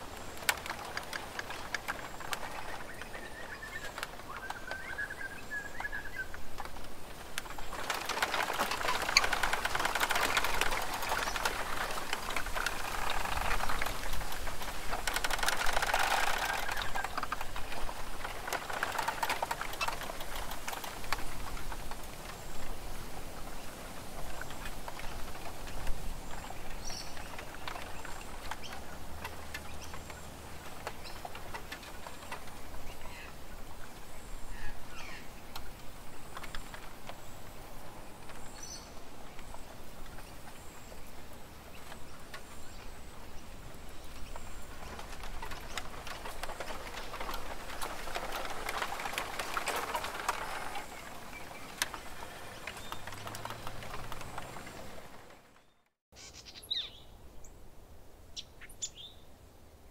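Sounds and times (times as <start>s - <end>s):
birds calling: 0.0s - 21.6s, 22.3s - 57.6s
outdoor background noise: 0.0s - 59.9s.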